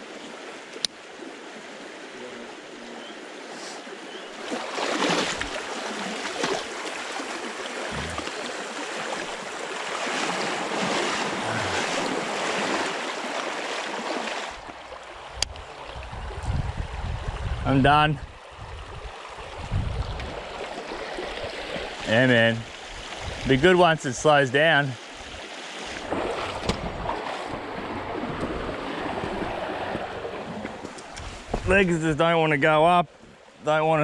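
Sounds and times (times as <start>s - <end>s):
creek water over rocks: 0.0s - 34.0s.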